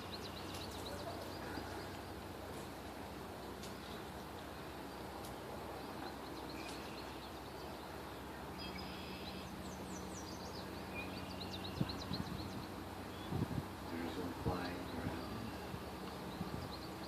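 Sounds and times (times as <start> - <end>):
outdoor background hiss: 0.0 - 17.0
small birds chirping: 0.0 - 17.0.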